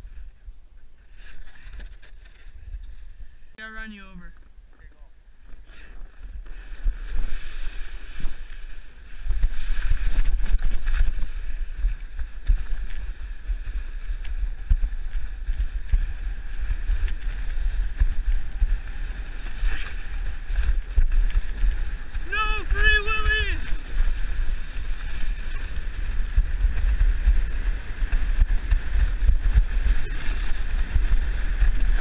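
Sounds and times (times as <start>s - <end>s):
sled scraping on snow: 5.5s - 32.0s.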